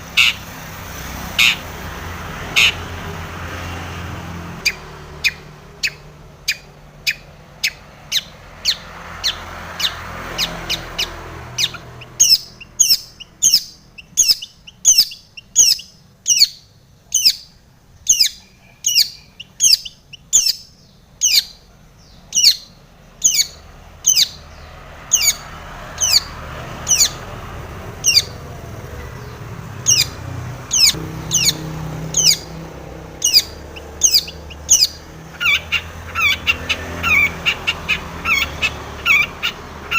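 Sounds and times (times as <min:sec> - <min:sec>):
bird calling sharp notes: 0:00.0 - 0:00.5, 0:01.3 - 0:01.8, 0:02.4 - 0:03.0, 0:04.4 - 0:39.9.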